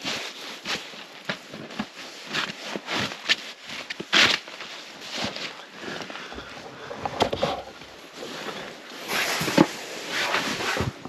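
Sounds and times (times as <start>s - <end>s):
fabric crinkling and rustling: 0.0s - 11.0s.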